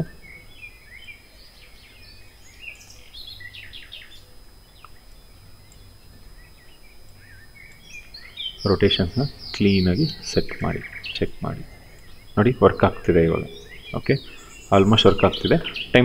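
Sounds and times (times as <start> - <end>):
faint bird chirps: 0.0 - 16.0
low steady hum: 0.0 - 16.0.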